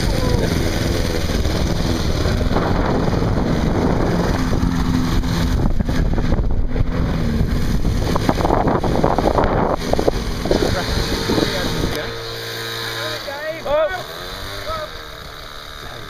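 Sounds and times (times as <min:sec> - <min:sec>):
lawnmower engine running: 0:00.0 - 0:16.0.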